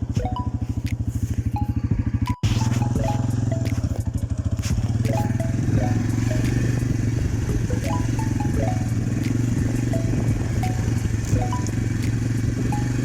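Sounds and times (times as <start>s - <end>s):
motorcycle engine running: 0.0s - 13.0s
short high-pitched blips: 0.2s - 4.2s, 5.0s - 7.0s, 7.6s - 13.0s.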